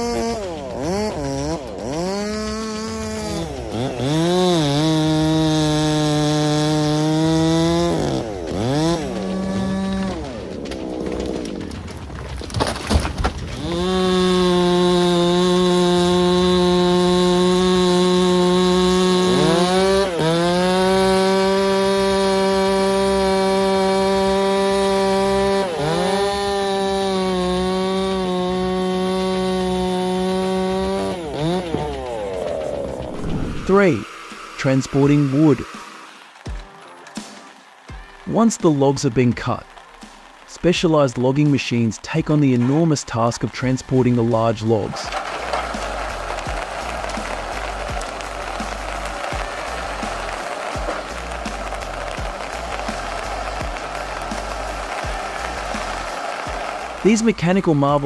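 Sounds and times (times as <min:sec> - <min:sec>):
chainsaw cutting tree trunk: 0:00.0 - 0:58.0.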